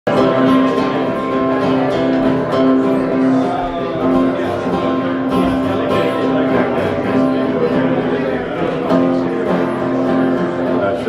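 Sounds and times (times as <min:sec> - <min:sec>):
acoustic guitars playing: 0:00.1 - 0:11.0.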